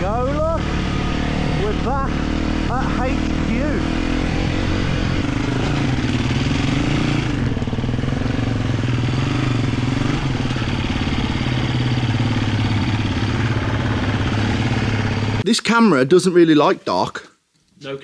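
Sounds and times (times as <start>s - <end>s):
motorbike engine running at low revs: 0.0s - 15.4s.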